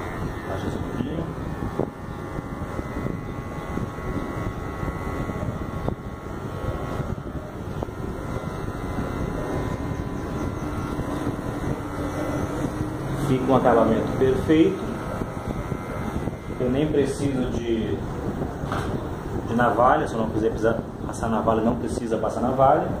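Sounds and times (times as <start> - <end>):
hair clipper running: 0.0 - 20.9.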